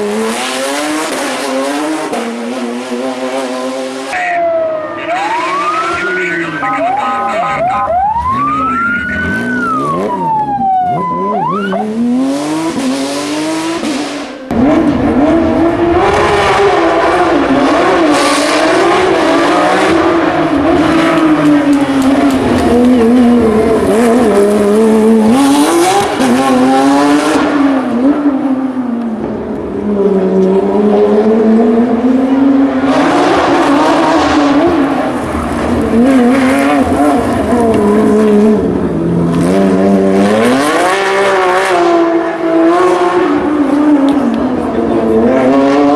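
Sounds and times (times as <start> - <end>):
racing engine revving: 0.0 - 45.9.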